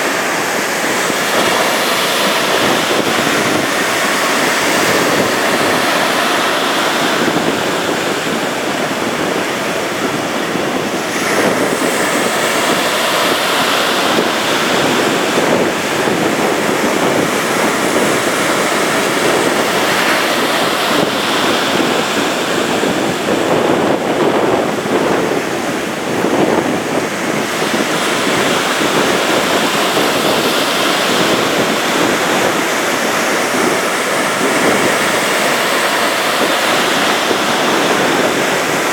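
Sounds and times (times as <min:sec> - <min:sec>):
ocean surf breaking: 0:00.0 - 0:38.9
wind buffeting microphone: 0:00.0 - 0:38.9.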